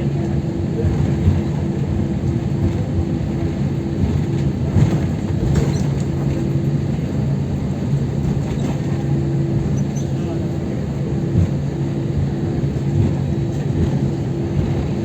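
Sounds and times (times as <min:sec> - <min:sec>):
airliner cabin rumble: 0:00.0 - 0:15.0
engine and air system hum: 0:00.0 - 0:15.0.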